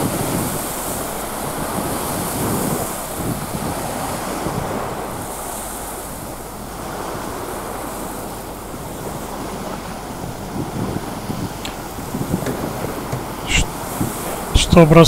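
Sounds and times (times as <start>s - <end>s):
small waves washing on sand: 0.0s - 15.0s
wind rumbling on microphone: 0.0s - 15.0s.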